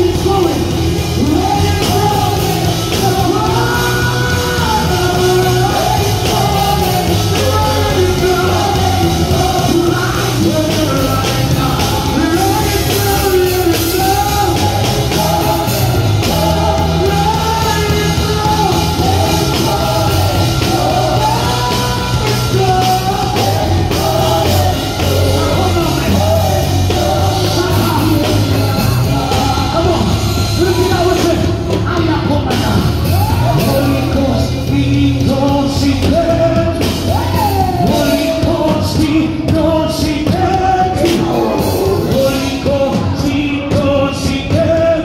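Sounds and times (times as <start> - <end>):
backing vocalists singing: 0.0 - 45.0
band playing gospel music: 0.0 - 45.0
lead singer singing: 0.0 - 45.0.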